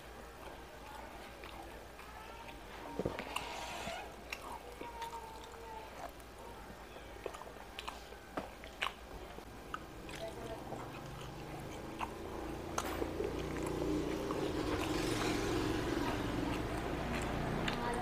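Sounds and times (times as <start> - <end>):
person chewing with lip smacks: 0.4 - 18.0.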